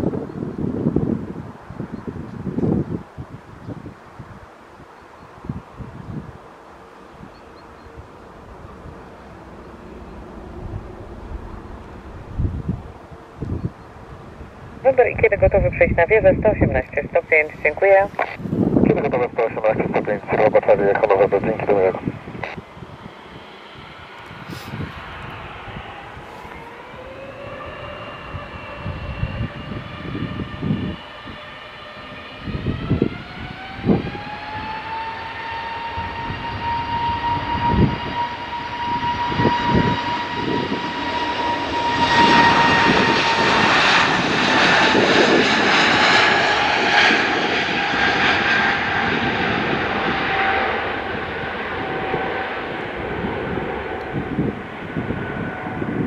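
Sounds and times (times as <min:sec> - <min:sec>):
jet engine roar: 0:00.0 - 0:56.0
jet engines whining: 0:00.0 - 0:56.0.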